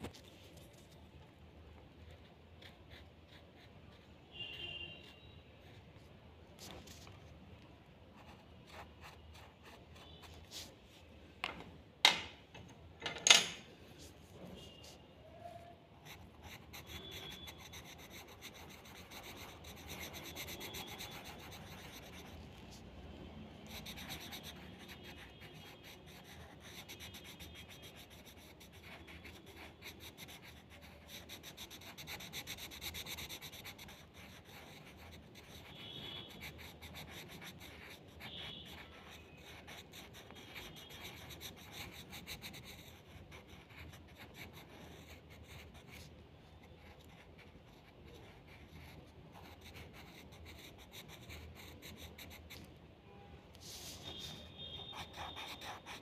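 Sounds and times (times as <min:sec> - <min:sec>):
pencil scratching on paper: 0:02.1 - 0:04.1, 0:08.2 - 0:10.8, 0:14.0 - 0:22.9, 0:23.6 - 0:52.7, 0:53.6 - 0:56.0.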